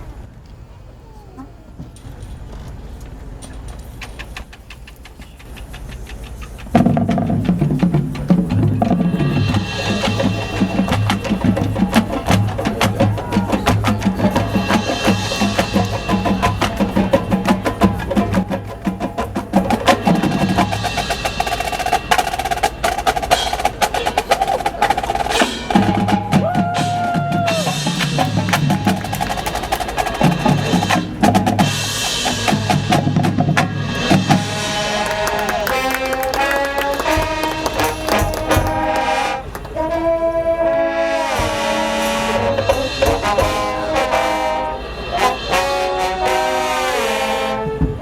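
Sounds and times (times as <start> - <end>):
snare drum rolls: 4.0 - 39.9, 41.1 - 48.0
marching band playing: 6.4 - 48.0
low brass notes: 6.8 - 48.0.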